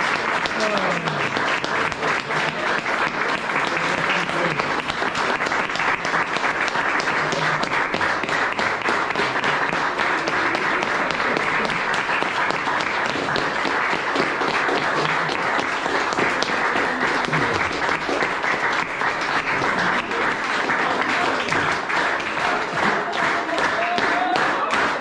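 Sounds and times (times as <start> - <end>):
audience applauding: 0.0 - 25.0
voices in crowd: 0.0 - 25.0.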